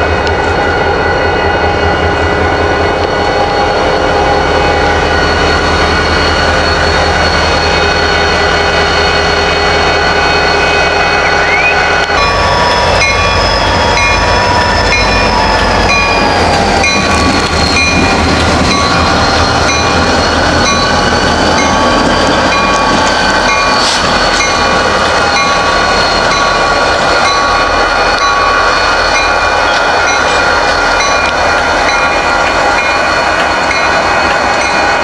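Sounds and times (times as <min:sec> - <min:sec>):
diesel locomotive engines rumbling: 0:00.0 - 0:35.0.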